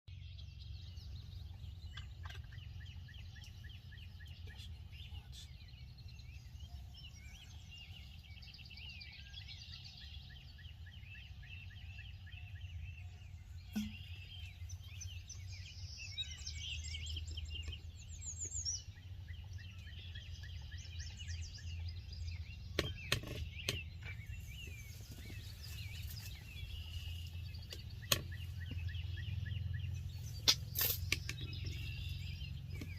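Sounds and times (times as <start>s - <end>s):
steady low rumble: 0.1s - 22.8s, 23.8s - 32.9s
small birds chirping: 0.1s - 32.9s.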